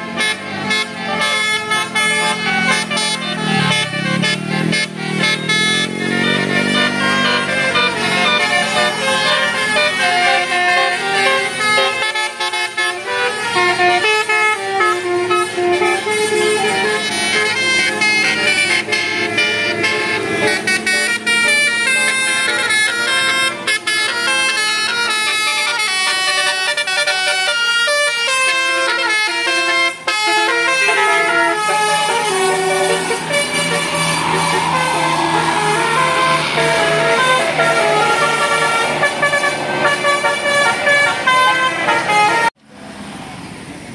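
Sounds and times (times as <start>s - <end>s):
musical air horn melody: 0.0s - 42.6s.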